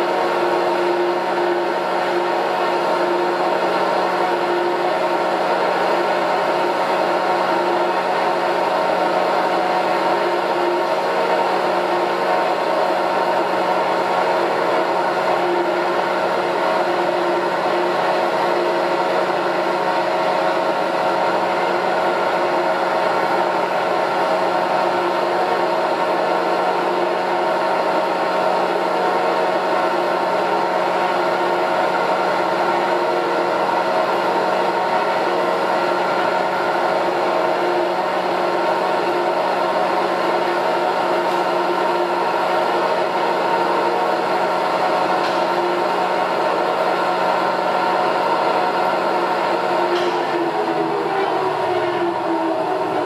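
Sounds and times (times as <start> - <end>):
mixer machine hum: 0.0 - 53.0.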